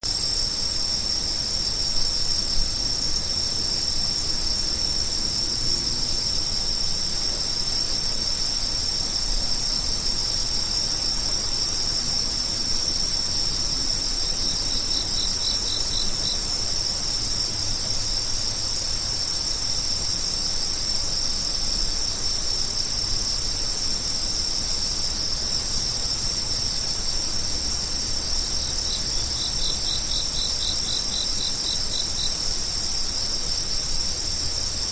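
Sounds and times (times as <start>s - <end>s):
insects droning: 0.0s - 34.9s
lower pulsed insect trill: 0.0s - 34.9s.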